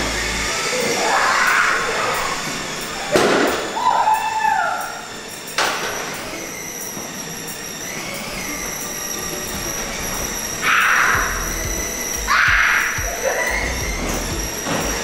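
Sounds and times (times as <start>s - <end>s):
rising and falling squeal: 0.0s - 15.0s.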